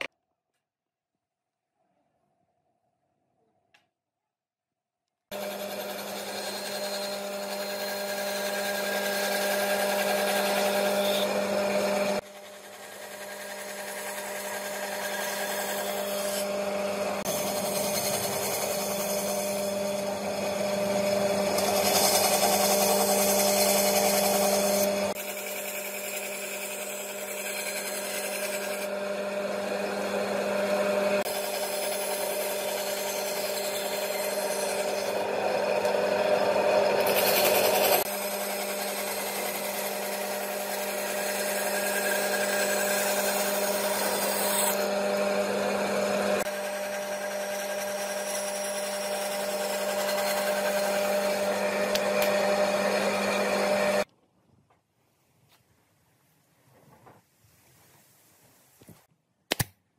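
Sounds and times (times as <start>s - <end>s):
bandsaw motor hum: 5.3s - 54.1s
saw blade cutting wood: 5.3s - 54.1s.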